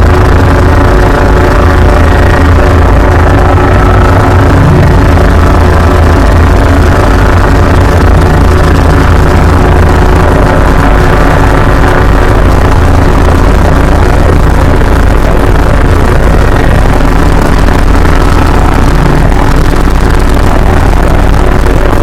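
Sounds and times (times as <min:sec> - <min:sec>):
distorted alarm tones: 0:00.0 - 0:22.0
harsh buzzing rumble: 0:00.0 - 0:22.0.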